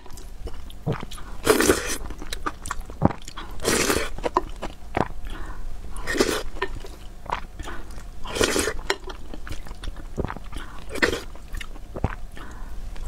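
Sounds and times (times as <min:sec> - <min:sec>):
wet chewing mouthfuls: 0:00.0 - 0:13.0.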